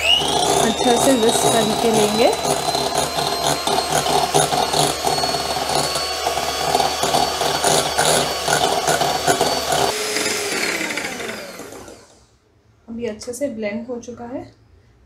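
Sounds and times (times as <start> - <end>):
electric hand mixer whirring: 0.0 - 12.4.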